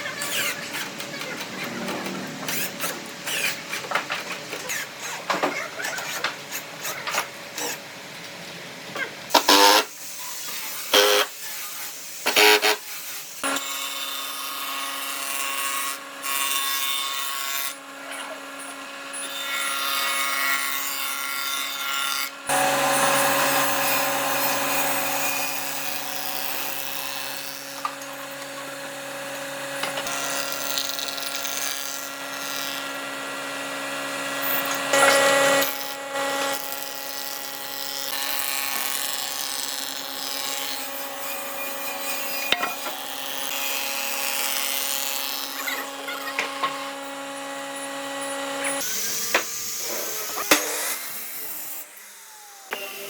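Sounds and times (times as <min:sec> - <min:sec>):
power tool cutting wood: 0:00.0 - 0:07.8, 0:09.3 - 0:53.0.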